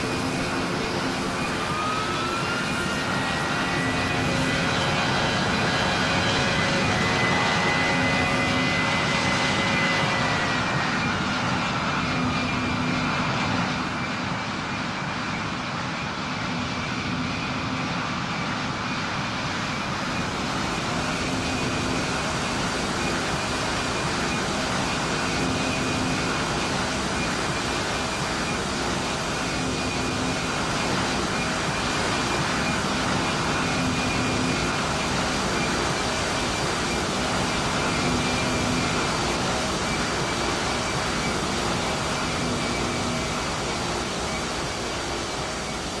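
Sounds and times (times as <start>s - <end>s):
airplane engines droning: 0.0s - 46.0s.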